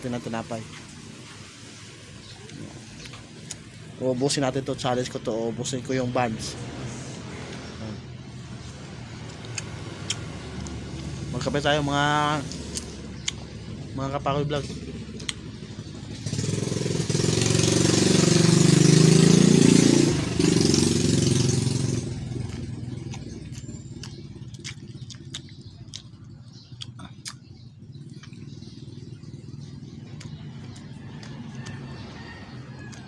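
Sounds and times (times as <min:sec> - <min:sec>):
vehicle driving past: 0:00.0 - 0:26.2, 0:27.8 - 0:33.0.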